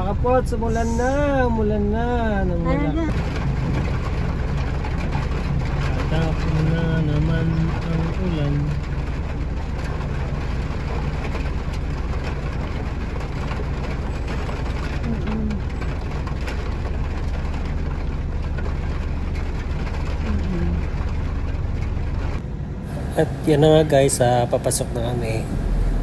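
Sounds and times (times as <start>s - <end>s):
rain on vehicle roof: 0.0s - 26.0s
truck engine idling: 0.0s - 26.0s.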